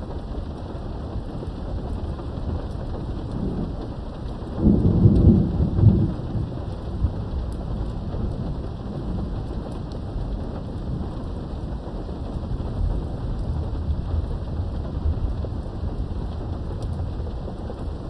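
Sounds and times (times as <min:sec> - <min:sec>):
steady rain: 0:00.0 - 0:18.0
distant thunder rumble: 0:01.8 - 0:18.0.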